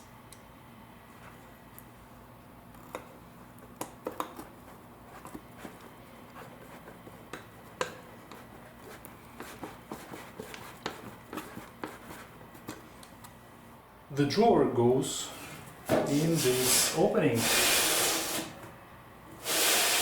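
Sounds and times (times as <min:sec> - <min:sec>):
faint steady hum: 0:00.0 - 0:16.4.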